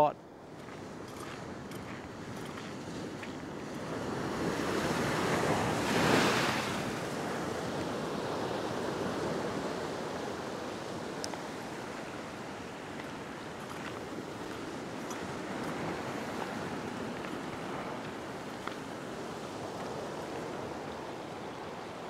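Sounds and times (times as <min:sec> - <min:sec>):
ocean surf breaking on rocks: 0:00.0 - 0:22.0.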